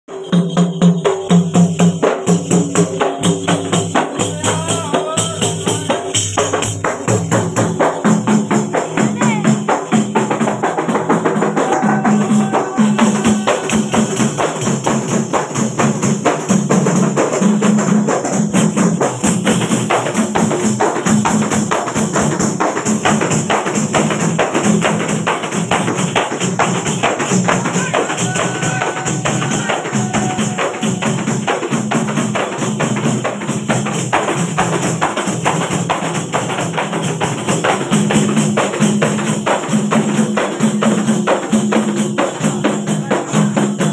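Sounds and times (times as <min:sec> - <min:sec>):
frame drums beating fast rhythm: 0:00.0 - 0:43.9.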